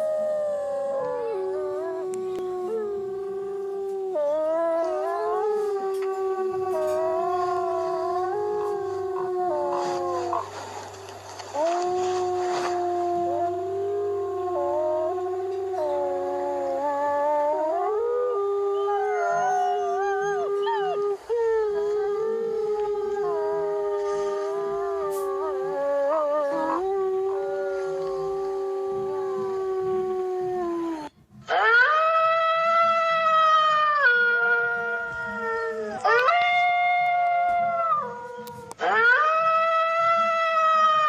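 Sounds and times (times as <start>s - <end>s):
wolves howling: 0.0s - 41.0s.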